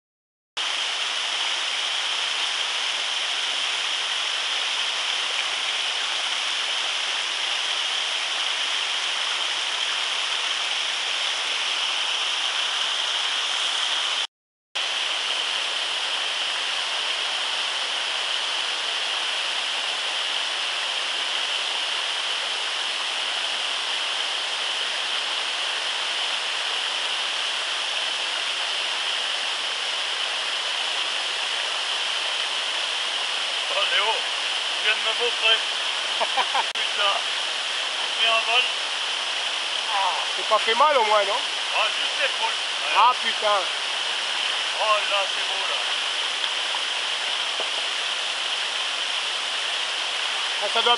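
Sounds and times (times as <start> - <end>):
mountain torrent rushing: 0.6 - 50.9.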